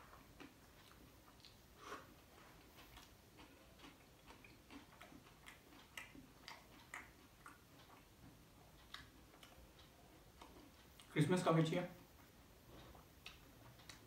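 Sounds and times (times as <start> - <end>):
chewing crisp flatbread: 0.0 - 11.2, 12.1 - 14.0.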